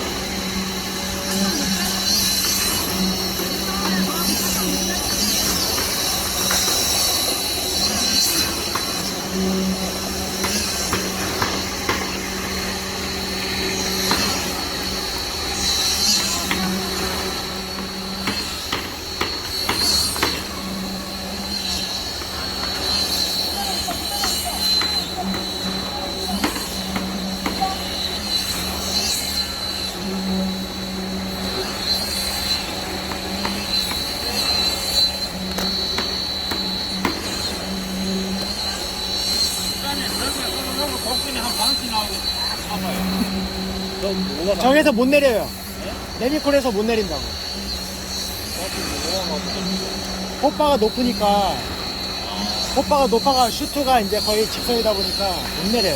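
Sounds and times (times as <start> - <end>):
high whine: 0.0 - 55.9.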